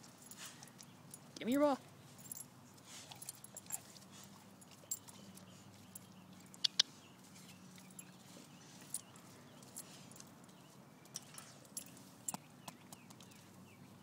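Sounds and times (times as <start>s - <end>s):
light clicks and scrapes: 2.2s - 13.4s.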